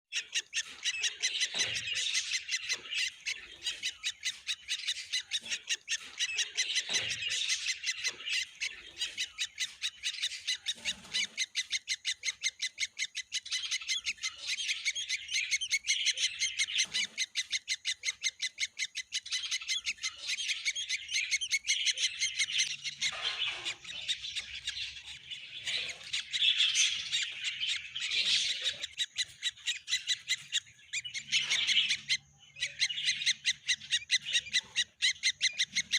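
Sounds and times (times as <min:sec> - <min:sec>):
baby birds chirping: 0:00.1 - 0:35.9.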